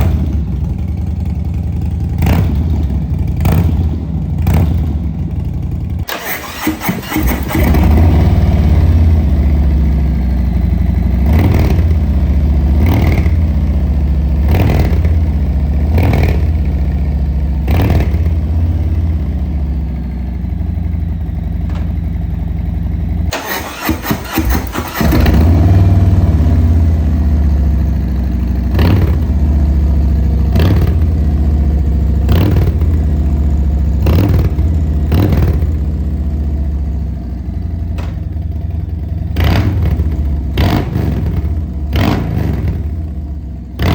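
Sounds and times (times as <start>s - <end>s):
motorcycle engine rumble with blips: 0.0s - 43.9s.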